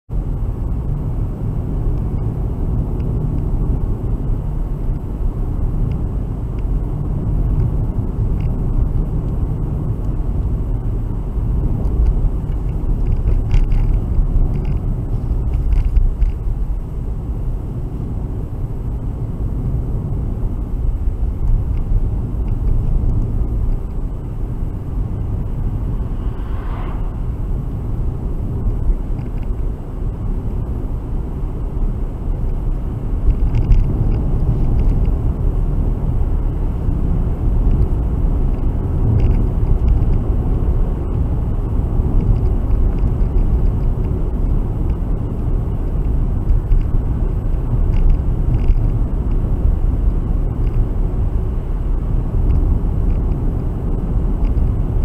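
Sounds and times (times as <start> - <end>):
car interior road rumble: 0.1 - 55.0.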